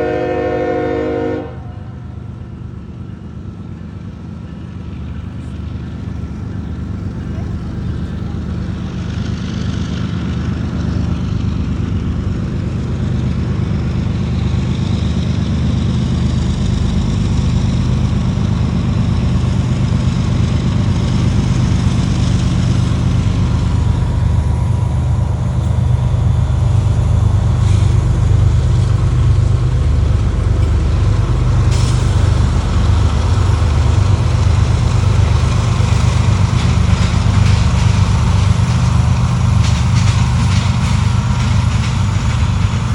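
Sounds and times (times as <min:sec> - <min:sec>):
diesel locomotive engine drone: 0:00.0 - 0:42.9.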